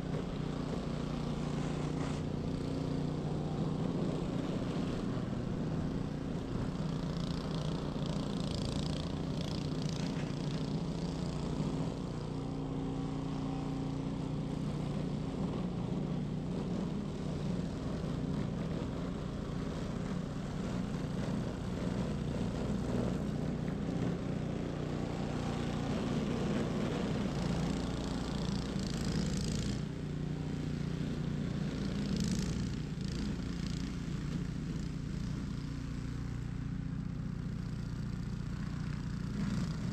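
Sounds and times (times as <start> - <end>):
snow blower engine running: 0.0 - 39.9.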